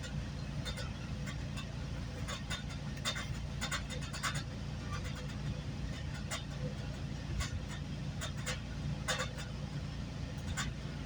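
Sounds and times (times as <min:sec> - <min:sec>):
light clicks and rattles: 0:00.0 - 0:11.0
train interior rumble: 0:00.0 - 0:11.0.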